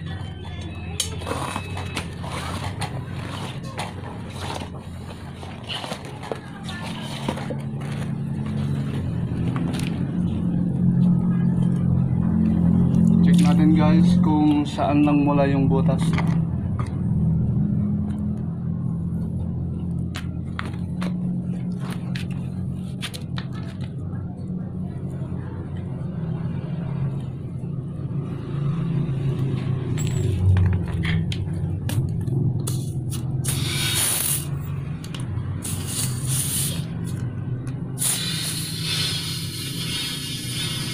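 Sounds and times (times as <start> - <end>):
low engine-like rumble: 0.0 - 40.9.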